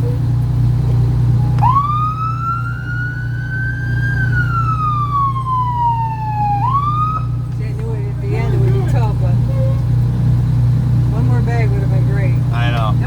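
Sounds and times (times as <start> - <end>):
fire truck siren wailing: 0.0 - 13.0
low engine hum: 0.0 - 13.0.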